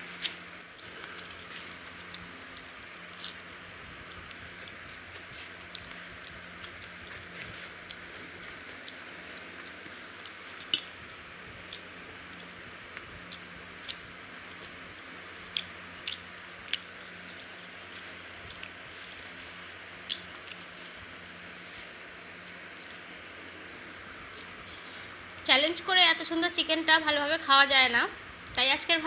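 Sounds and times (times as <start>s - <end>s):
chewing and lip smacking: 0.1s - 25.4s.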